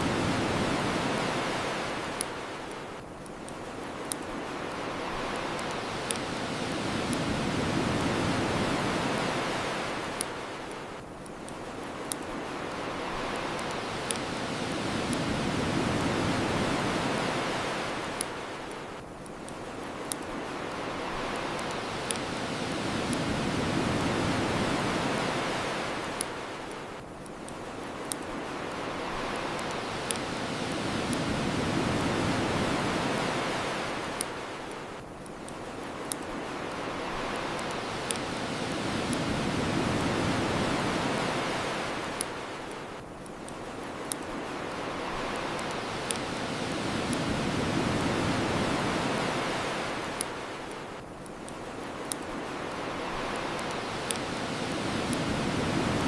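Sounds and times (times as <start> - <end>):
bonfire crackling: 0.0 - 56.0
ocean waves washing ashore: 0.0 - 56.0.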